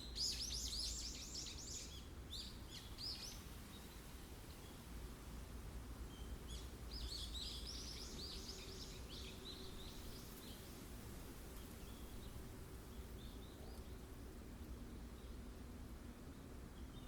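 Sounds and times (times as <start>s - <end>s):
wind blowing through forest: 0.0s - 17.0s.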